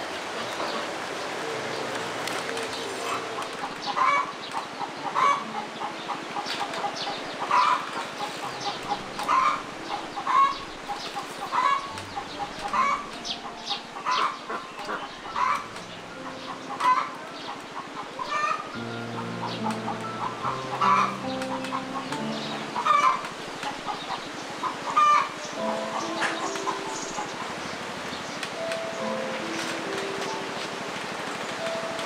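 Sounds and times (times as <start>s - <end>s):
chickens clucking: 0.2s - 32.0s.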